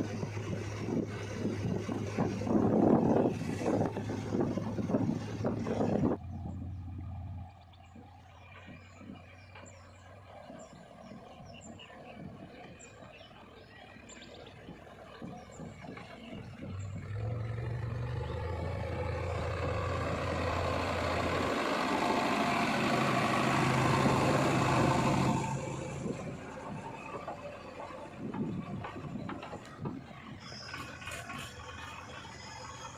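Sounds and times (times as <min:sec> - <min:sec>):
diesel engine of heavy machinery: 0:00.0 - 0:32.9.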